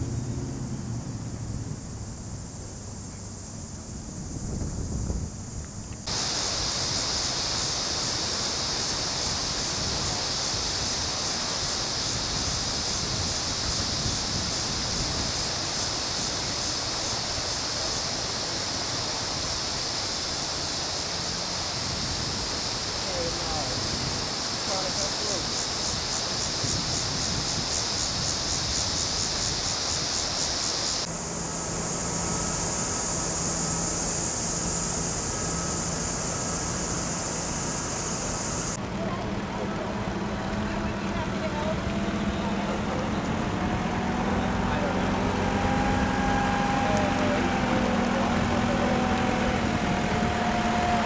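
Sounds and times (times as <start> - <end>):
floodwater rushing: 6.1 - 31.1, 32.0 - 51.0.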